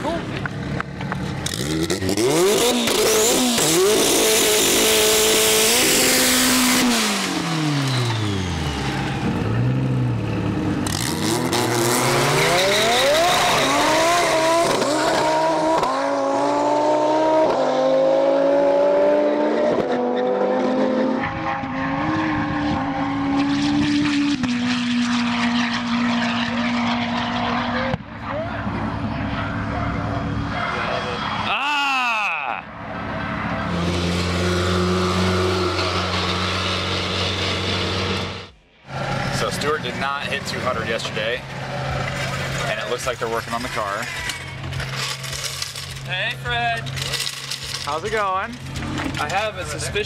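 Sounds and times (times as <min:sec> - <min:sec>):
car engine accelerating hard: 0:00.6 - 0:31.5, 0:32.7 - 0:44.0.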